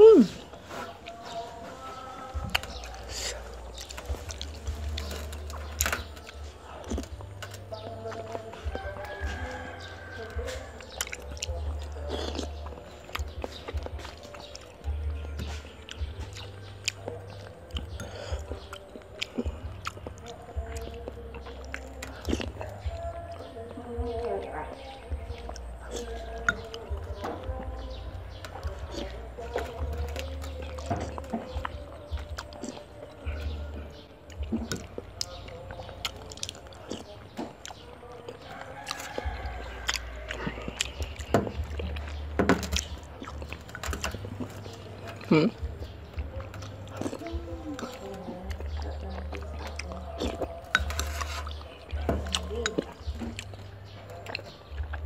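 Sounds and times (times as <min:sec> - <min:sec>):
person chewing: 0:00.0 - 0:24.2, 0:25.0 - 0:55.0.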